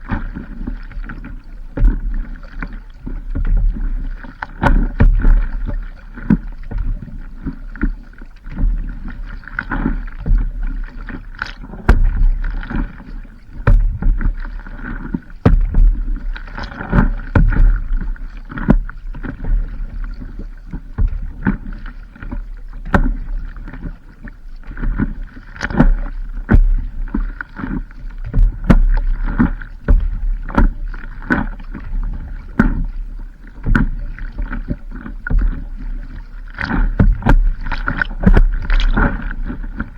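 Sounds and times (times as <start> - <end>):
water splashing around paddleboard: 0.0 - 39.9.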